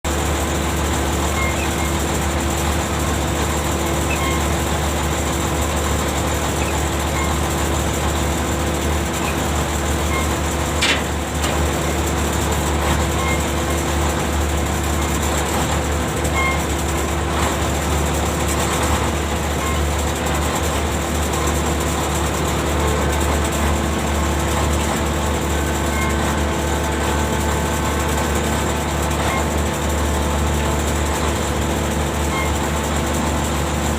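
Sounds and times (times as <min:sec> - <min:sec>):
ship machinery humming: 0:00.1 - 0:33.9.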